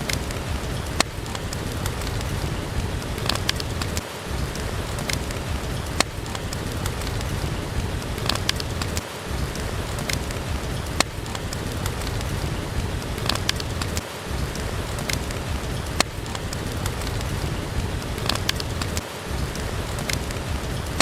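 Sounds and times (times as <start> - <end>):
steady rain: 0.0 - 21.0
wood fire crackling and popping: 0.0 - 21.0.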